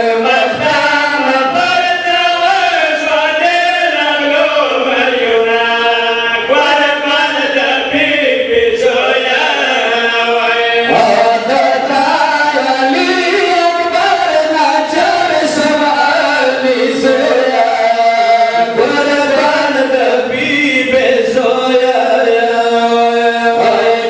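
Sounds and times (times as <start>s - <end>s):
men chanting into microphones: 0.0s - 24.0s.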